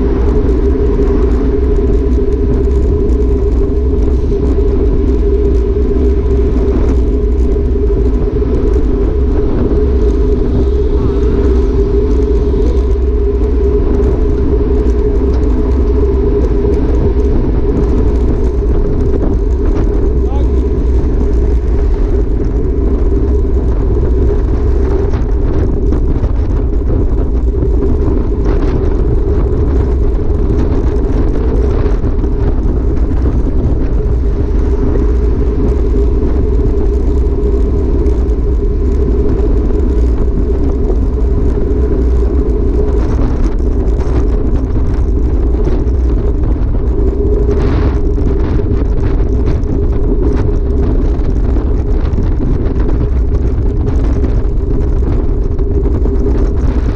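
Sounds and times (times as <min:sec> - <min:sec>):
bike tyres rolling on asphalt: 0:00.0 - 0:56.9
wind rushing on microphone: 0:00.0 - 0:56.9.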